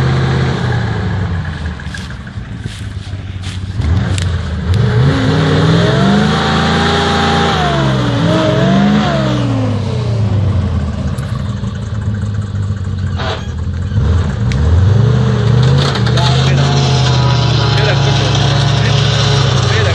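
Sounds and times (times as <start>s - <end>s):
truck engine revving: 0.0s - 19.9s.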